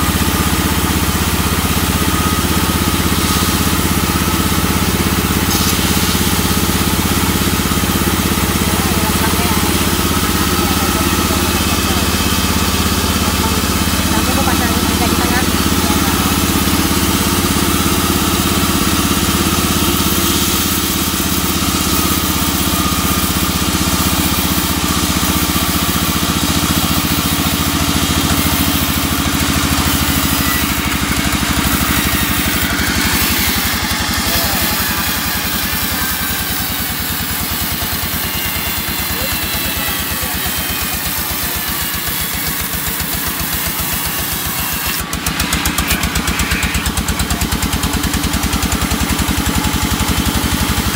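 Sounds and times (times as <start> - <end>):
band saw cutting wood: 0.0 - 50.9.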